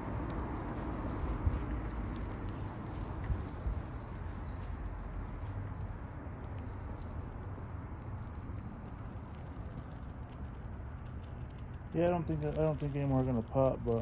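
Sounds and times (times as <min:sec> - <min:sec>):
flames rushing and crackling: 0:00.0 - 0:14.0
wind rumble on microphone: 0:00.0 - 0:14.0.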